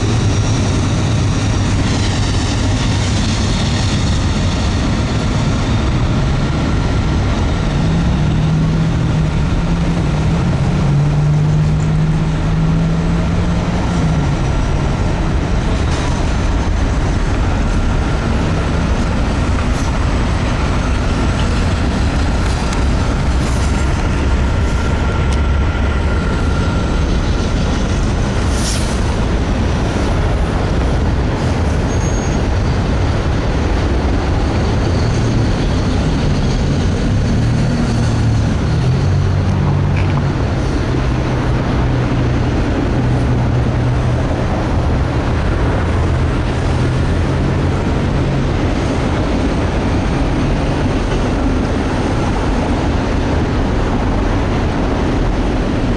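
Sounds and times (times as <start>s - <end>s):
freight train cars rumbling: 0.0s - 55.9s.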